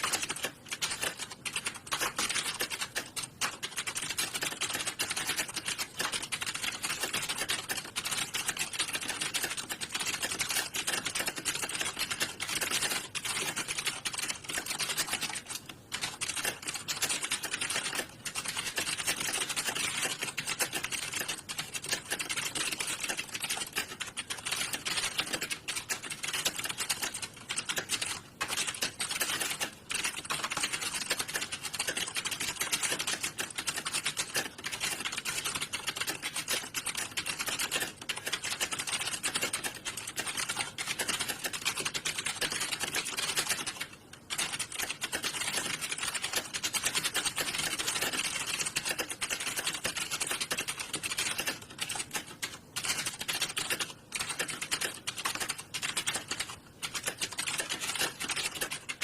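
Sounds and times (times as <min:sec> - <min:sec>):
keyboard typing clatter: 0:00.0 - 0:59.0.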